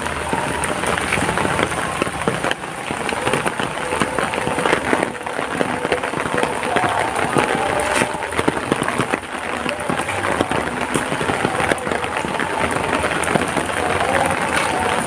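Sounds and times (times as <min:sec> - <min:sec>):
close raindrop impacts: 0:00.0 - 0:15.0
heavy rain hiss: 0:00.0 - 0:15.0.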